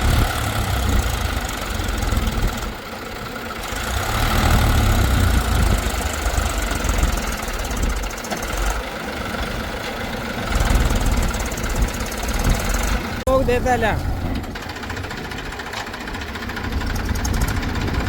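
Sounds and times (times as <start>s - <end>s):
diesel engine of heavy machinery: 0.0s - 18.0s.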